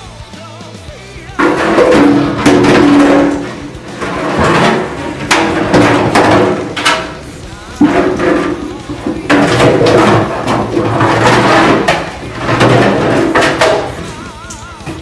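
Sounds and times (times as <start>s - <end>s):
jug scraping across floor: 1.4s - 15.0s
plastic jug banging on tiles: 1.4s - 15.0s.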